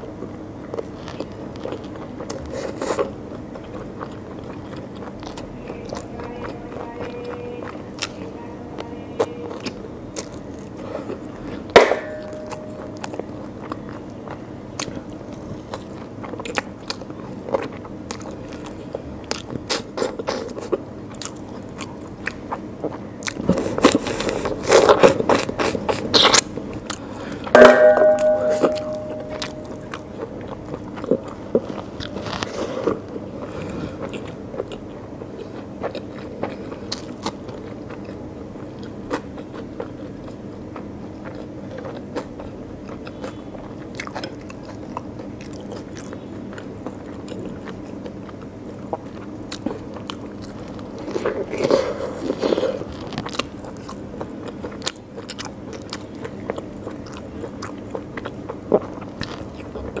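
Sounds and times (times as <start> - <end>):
chewing and wet mouth sounds: 0.0 - 27.6, 28.2 - 60.0.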